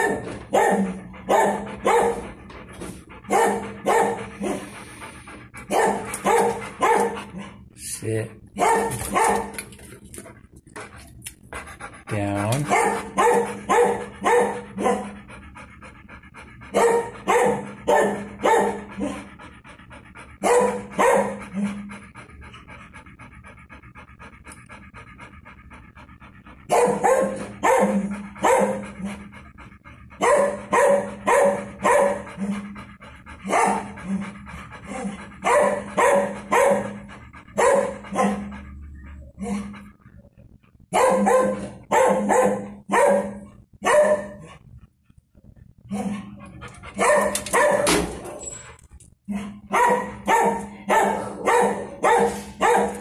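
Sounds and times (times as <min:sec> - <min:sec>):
large dog panting: 0:00.0 - 0:53.0
steady low hum: 0:00.4 - 0:53.0.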